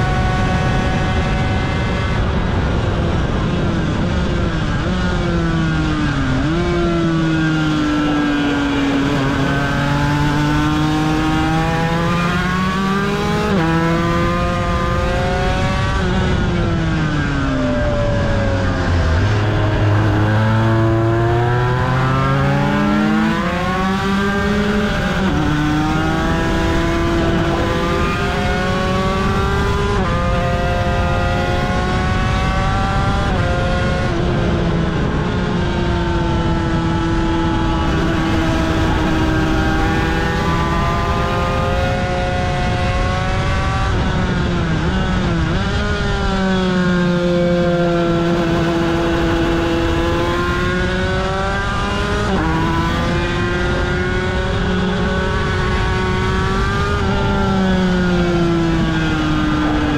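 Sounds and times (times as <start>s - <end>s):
motorcycle engine revving through gears: 0.0s - 59.9s
wind rushing over microphone: 0.0s - 59.9s.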